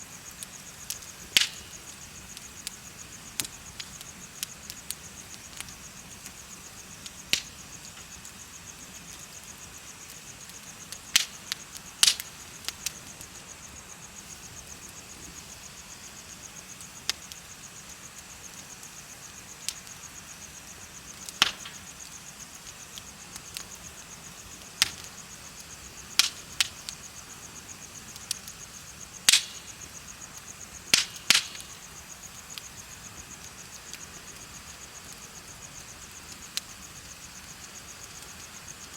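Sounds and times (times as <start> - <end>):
bonfire crackling: 0.0 - 38.9
insects chirping: 0.0 - 38.9.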